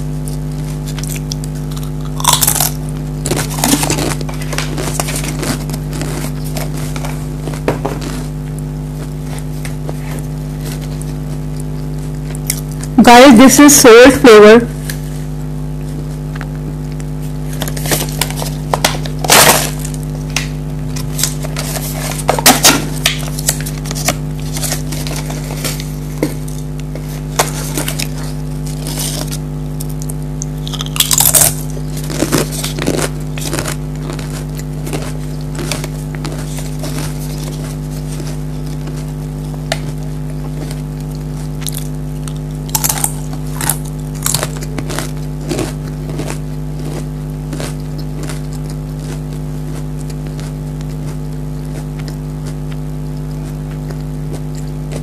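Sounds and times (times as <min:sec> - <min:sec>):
steady hum: 0:00.0 - 0:55.0
crisps being crunched: 0:00.2 - 0:13.0, 0:15.8 - 0:55.0.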